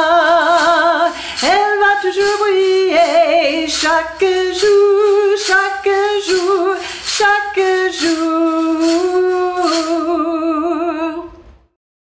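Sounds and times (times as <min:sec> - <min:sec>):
woman singing unaccompanied: 0:00.0 - 0:11.4.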